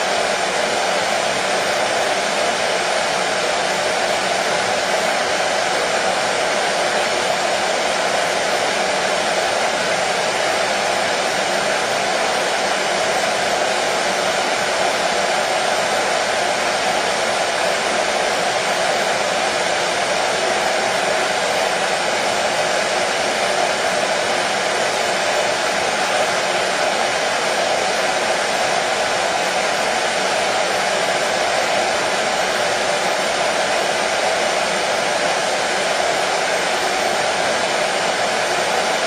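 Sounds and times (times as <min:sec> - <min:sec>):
hair dryer running: 0:00.0 - 0:39.0.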